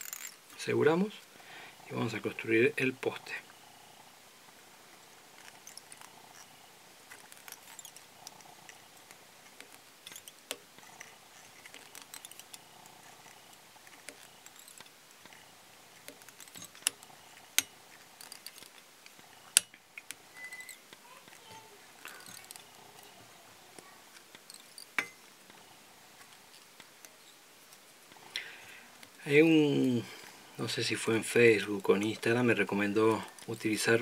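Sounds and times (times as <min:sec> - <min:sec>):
thread wrapping ticks and rustles: 0:00.0 - 0:34.0.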